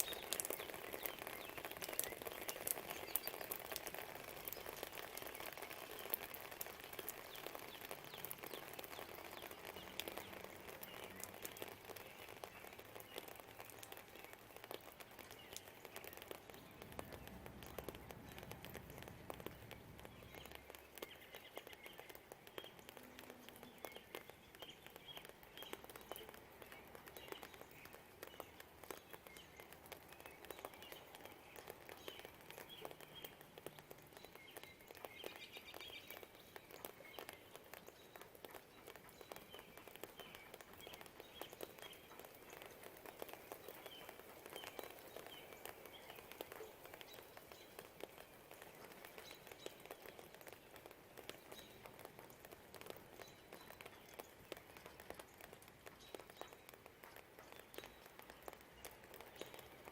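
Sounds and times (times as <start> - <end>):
birds chirping: 0.0 - 59.9
light rain pattering: 0.0 - 59.9.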